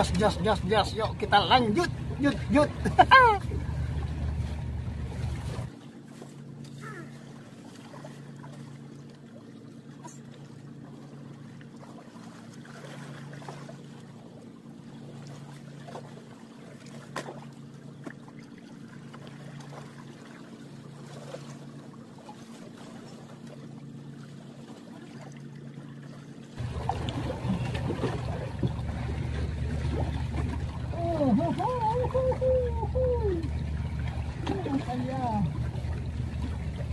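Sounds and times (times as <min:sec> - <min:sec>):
boat engine hum: 0:00.0 - 0:36.9
water noise: 0:00.0 - 0:36.9
wind: 0:00.0 - 0:36.9.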